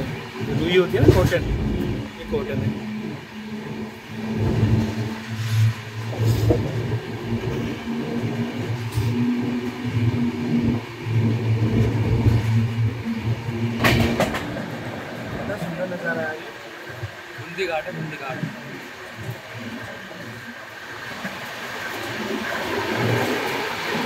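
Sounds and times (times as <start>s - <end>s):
train low hum: 0.0s - 24.0s
wheels rumbling on track: 0.0s - 24.0s.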